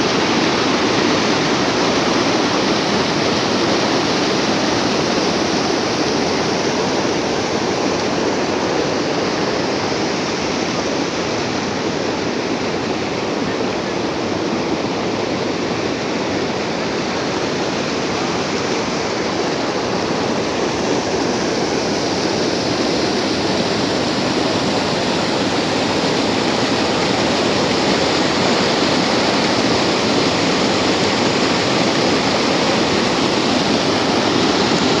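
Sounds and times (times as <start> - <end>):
water rushing over a weir: 0.0 - 35.0.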